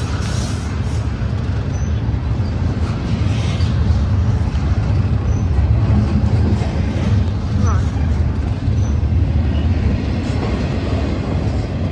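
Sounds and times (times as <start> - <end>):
train rumbling past: 0.0 - 11.9.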